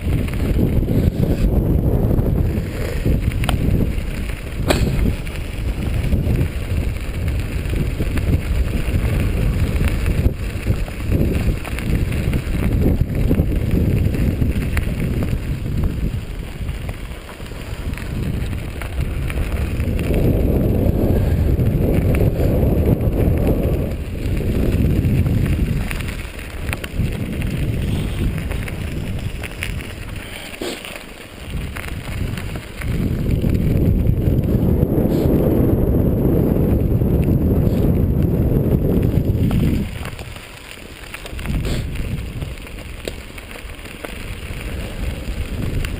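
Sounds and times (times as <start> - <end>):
bike rattling and knocking: 0.0 - 45.9
tyres rumbling on dirt: 0.0 - 45.9
wind buffeting microphone: 0.0 - 45.9.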